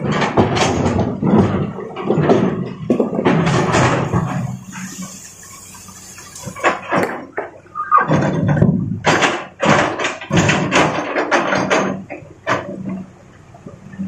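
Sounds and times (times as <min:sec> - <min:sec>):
rocks clattering into truck bed: 0:00.0 - 0:04.6, 0:06.4 - 0:13.1.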